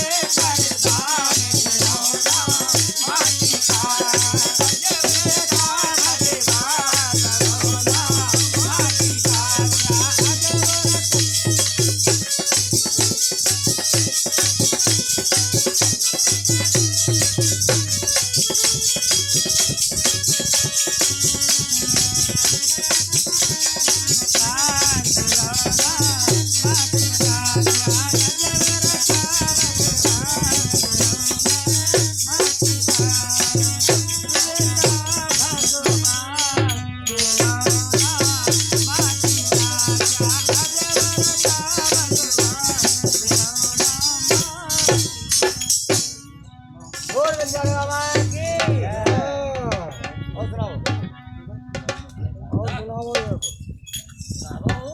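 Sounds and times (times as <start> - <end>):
low drum beat: 0.0 - 46.1
shaking rattle percussion: 0.0 - 50.3, 51.8 - 54.9.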